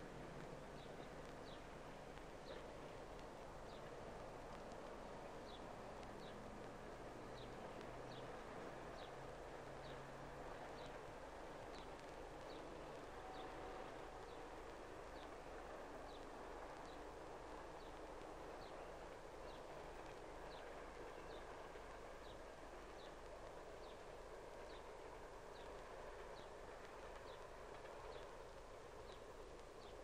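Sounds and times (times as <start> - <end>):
film soundtrack hiss: 0.0 - 30.0.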